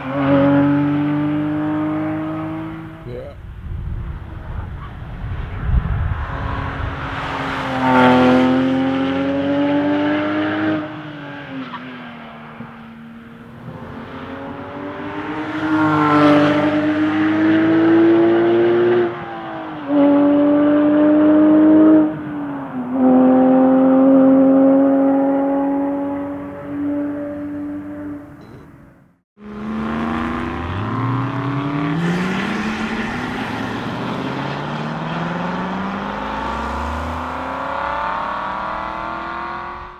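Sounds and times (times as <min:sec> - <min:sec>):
sports car engine passing by: 0:00.0 - 0:03.1, 0:04.0 - 0:28.4, 0:29.4 - 0:39.9.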